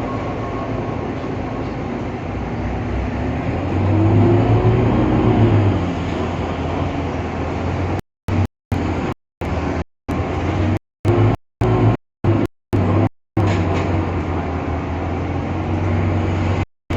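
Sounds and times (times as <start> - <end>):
bus engine droning: 0.0 - 16.7.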